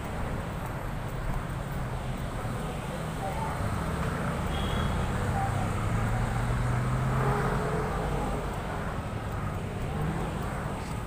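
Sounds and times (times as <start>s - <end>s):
street traffic: 0.0s - 11.0s
vehicle engine humming: 0.0s - 11.0s.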